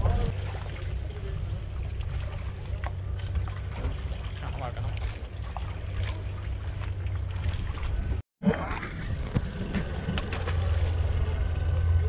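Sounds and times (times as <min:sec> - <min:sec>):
splash beside hull: 0:00.0 - 0:11.4
boat engine rumble: 0:00.0 - 0:12.0
water noise: 0:00.0 - 0:12.0.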